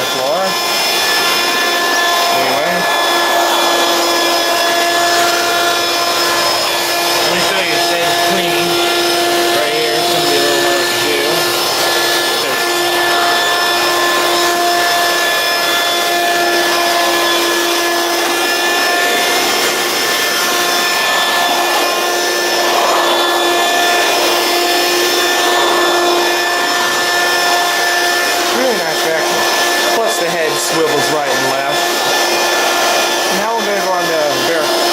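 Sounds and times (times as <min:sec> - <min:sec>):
stick vacuum running: 0:00.0 - 0:34.9.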